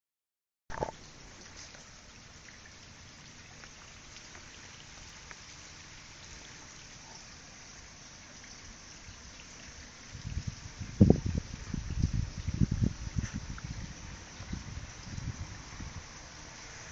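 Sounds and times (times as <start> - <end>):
faint hiss with light ticks: 0.8 - 16.9.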